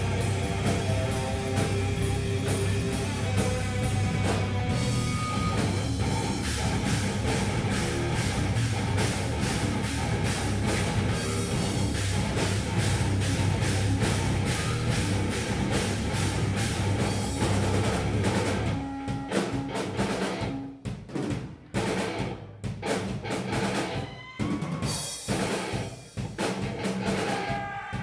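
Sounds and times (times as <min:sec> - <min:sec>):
electric guitars: 0:00.0 - 0:20.8, 0:21.7 - 0:27.7
drum kit beat: 0:00.0 - 0:28.0.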